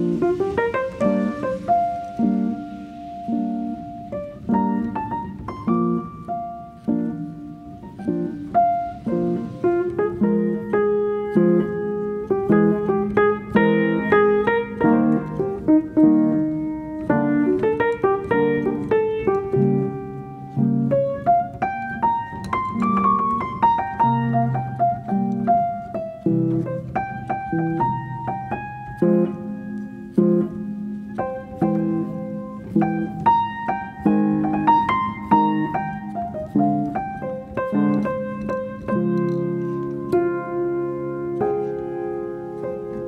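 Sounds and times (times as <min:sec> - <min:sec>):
slow piano music: 0:00.0 - 0:43.0.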